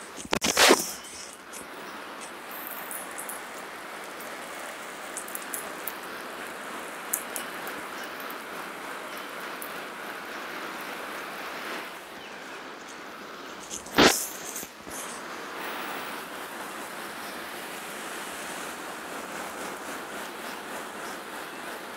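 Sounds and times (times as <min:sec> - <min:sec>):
garden hose spraying on grass: 0:00.0 - 0:21.9.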